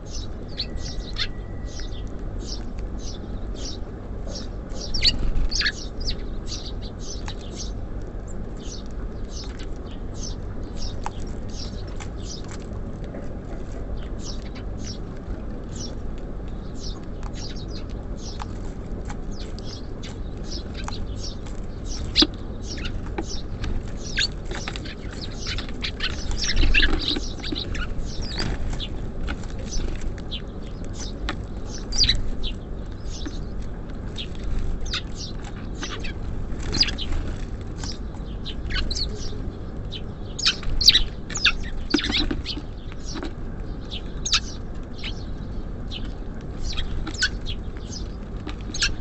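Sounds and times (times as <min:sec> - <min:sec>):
low background rumble: 0:00.0 - 0:49.0
songbirds chirping: 0:00.0 - 0:49.0.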